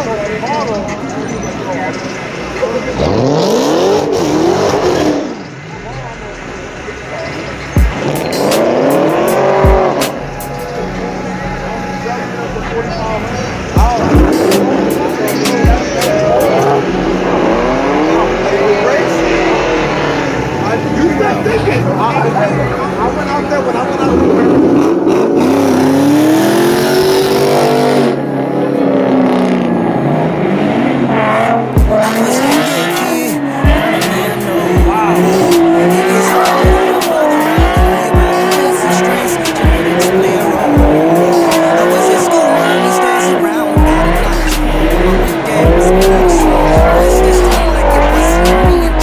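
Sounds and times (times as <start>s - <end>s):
car engine revving: 0.0s - 49.0s
tire noise: 0.0s - 49.0s
hip-hop music with booming bass: 6.5s - 49.0s.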